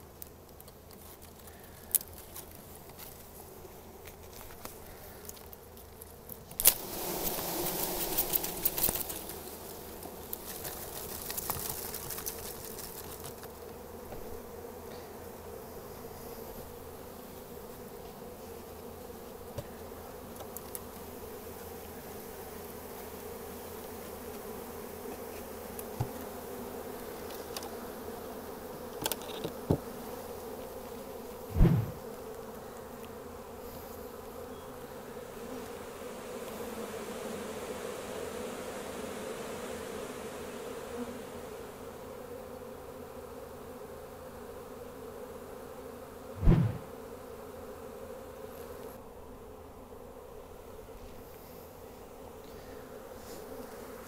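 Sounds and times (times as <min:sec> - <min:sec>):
bee swarm humming: 0:00.0 - 0:54.0.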